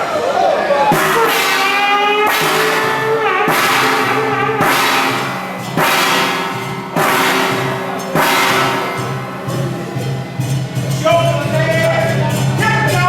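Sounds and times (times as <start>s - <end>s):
loud percussion crashes: 0.9s - 13.0s
melody with bending notes: 1.0s - 12.0s.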